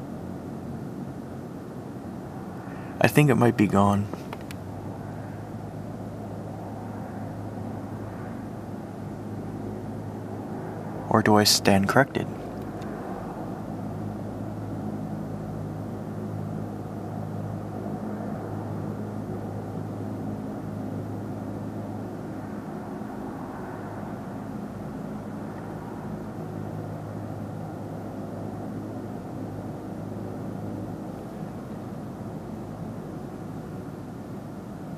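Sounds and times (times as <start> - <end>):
low droning hum: 0.0 - 34.9.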